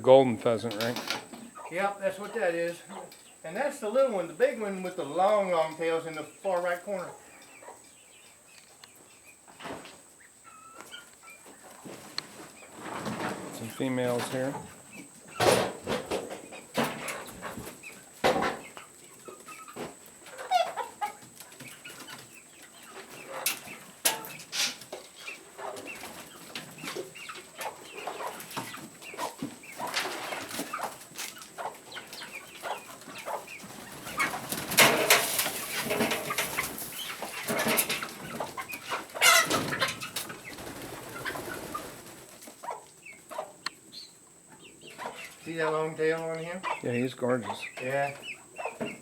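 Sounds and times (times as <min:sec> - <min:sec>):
chickens and pheasants clucking: 0:00.2 - 0:49.0.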